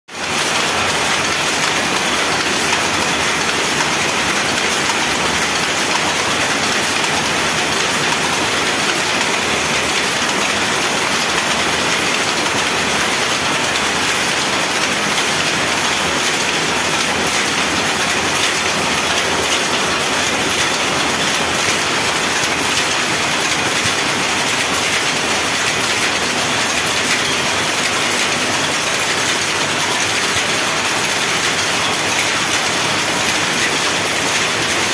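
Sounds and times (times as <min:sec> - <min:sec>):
power looms clattering: 0:00.2 - 0:34.9.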